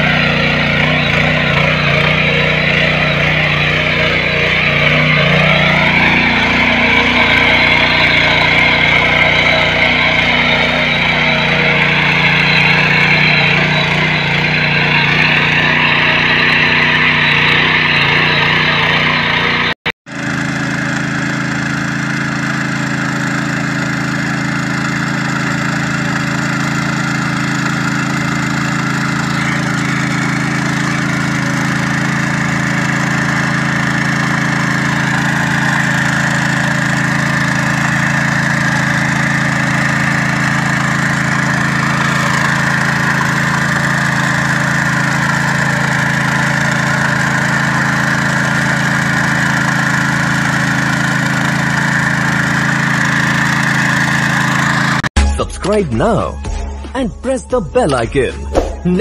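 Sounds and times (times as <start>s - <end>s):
blades churning soil: 0.0s - 55.1s
power weeder engine running: 0.0s - 55.8s.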